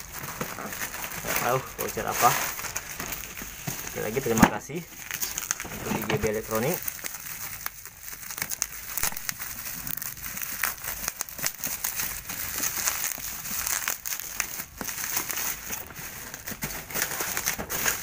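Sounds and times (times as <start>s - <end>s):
bubble wrap crackling: 0.0s - 18.0s.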